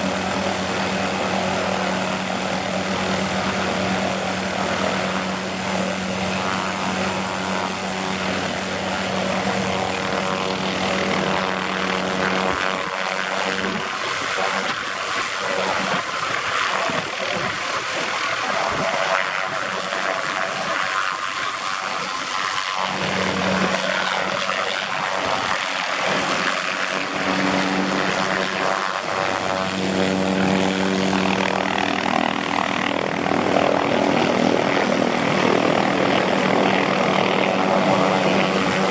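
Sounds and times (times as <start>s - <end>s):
helicopter rotor drone: 0.0s - 38.9s
helicopter turbine whine: 0.0s - 38.9s.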